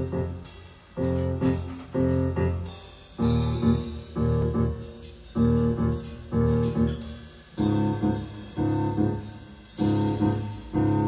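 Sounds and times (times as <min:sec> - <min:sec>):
music chords over deep bass: 0:00.0 - 0:11.0.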